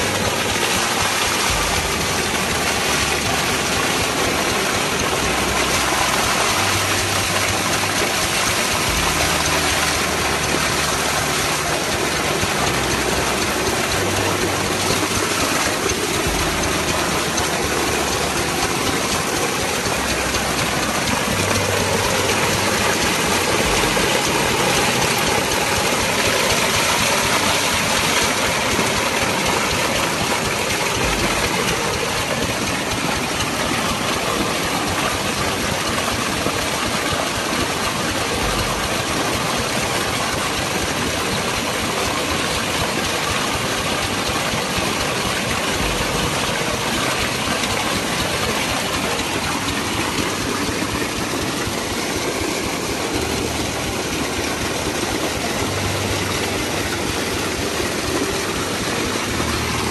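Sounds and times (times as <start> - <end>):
pump engine running: 0.0 - 59.9
steady rushing noise: 0.0 - 59.9.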